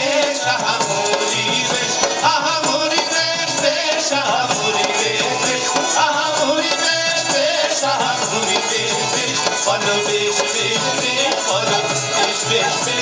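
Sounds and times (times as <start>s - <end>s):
live stage music: 0.0s - 13.0s.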